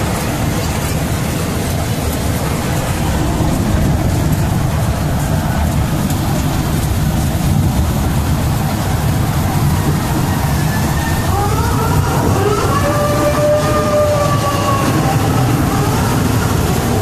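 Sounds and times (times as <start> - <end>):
miniature train rumbling: 0.0 - 17.0.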